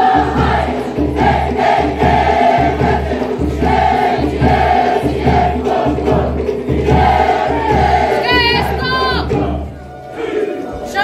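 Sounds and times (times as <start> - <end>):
group of young voices singing: 0.0 - 11.0.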